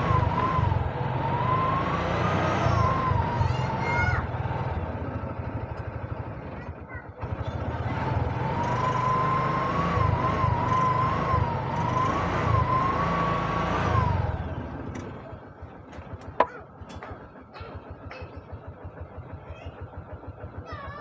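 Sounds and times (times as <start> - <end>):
auto rickshaw engine revving: 0.0 - 21.0.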